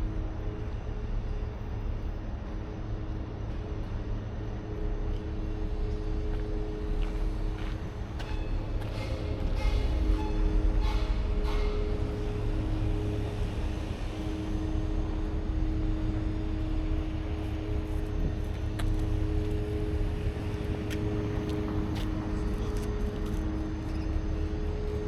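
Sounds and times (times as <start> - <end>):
low rumble with two-note hum: 0.0 - 25.0.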